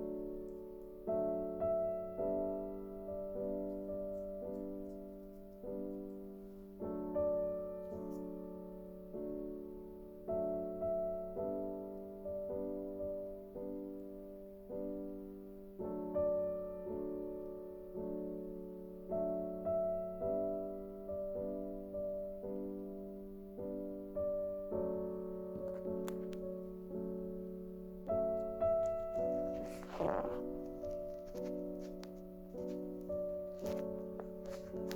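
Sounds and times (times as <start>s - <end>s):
slow piano chords: 0.0s - 34.9s.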